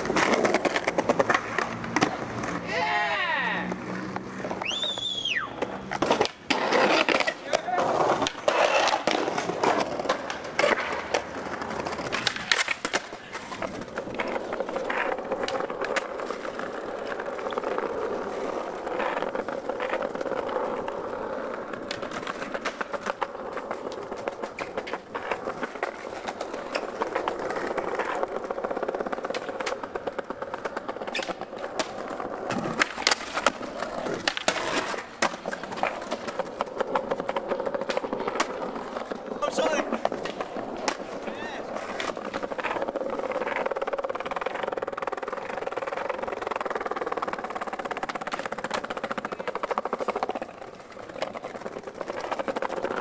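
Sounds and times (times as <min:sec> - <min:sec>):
skateboard clacks and knocks: 0:00.0 - 0:53.0
skateboard wheels rolling on stone: 0:00.0 - 0:53.0.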